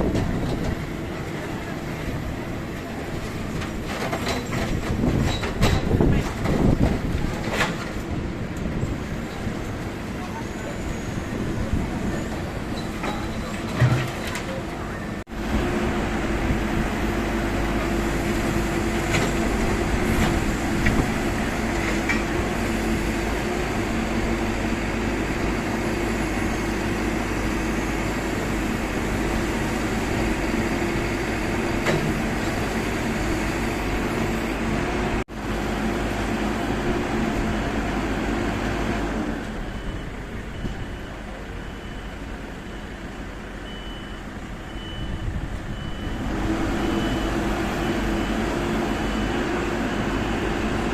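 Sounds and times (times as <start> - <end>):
heavy diesel machinery hum: 0.0 - 50.9
traffic: 0.0 - 50.9.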